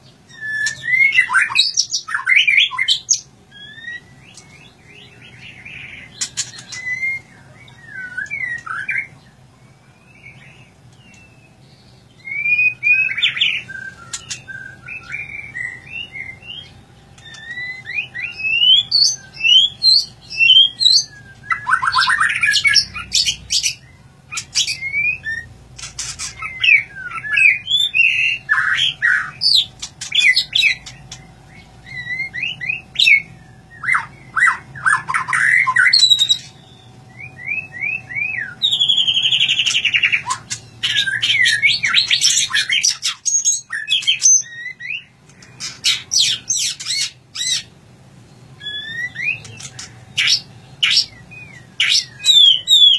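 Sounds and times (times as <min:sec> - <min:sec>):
harsh rattling bird notes: 0:00.1 - 0:09.2, 0:10.1 - 0:52.9
bird singing whistled phrases: 0:00.3 - 0:47.7, 0:48.5 - 0:52.9.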